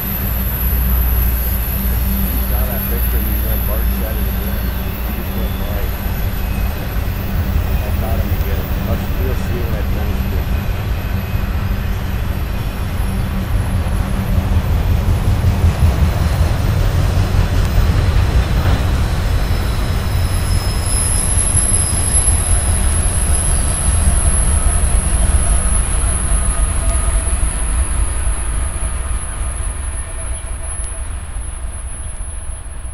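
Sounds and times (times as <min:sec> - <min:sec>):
high-pitched wheel squeal: 0:00.0 - 0:16.8, 0:17.4 - 0:32.9
train wheels rumbling on rail: 0:00.0 - 0:32.9.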